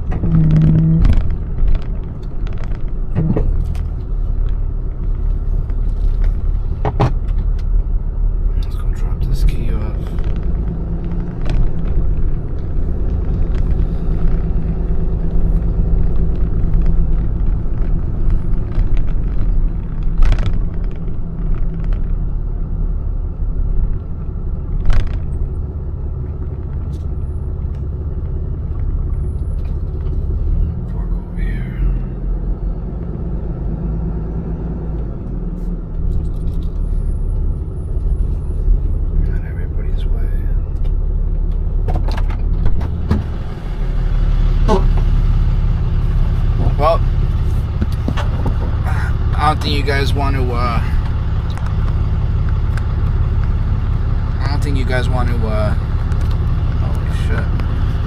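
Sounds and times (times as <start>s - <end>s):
motor vehicle rumbling: 0.0s - 58.0s.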